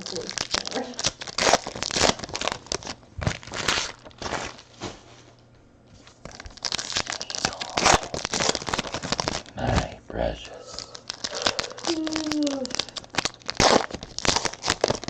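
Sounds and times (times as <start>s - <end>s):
card pack wrappers crinkling: 0.0s - 5.1s, 6.0s - 15.0s.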